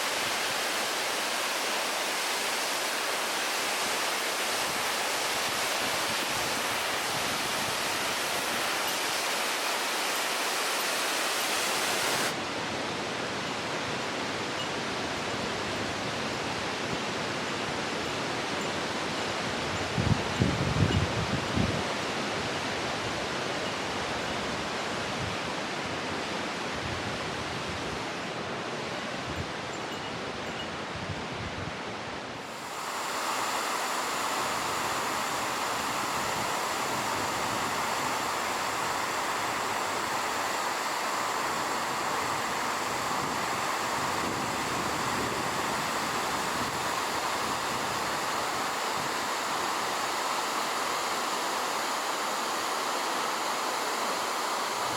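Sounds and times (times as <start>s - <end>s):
mountain stream rushing: 0.0s - 54.9s.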